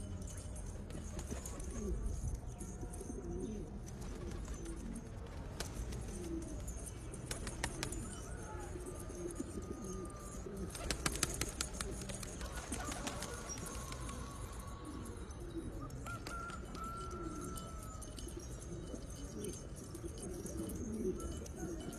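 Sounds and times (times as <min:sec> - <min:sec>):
pigeons cooing: 0:00.0 - 0:21.9.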